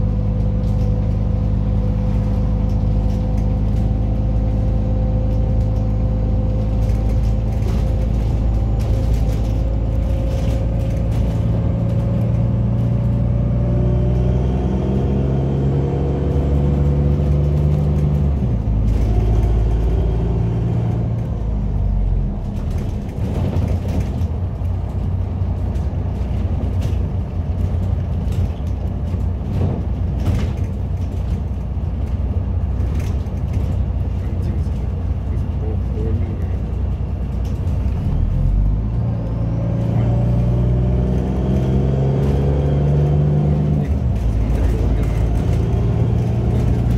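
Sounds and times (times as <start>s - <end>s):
bus engine drone: 0.0s - 46.9s
road rumble: 0.0s - 46.9s.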